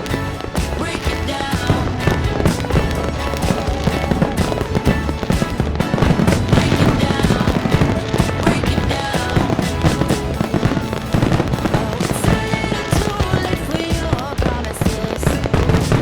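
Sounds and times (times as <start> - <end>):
fireworks bursting: 0.0 - 16.0
loud music: 0.0 - 16.0.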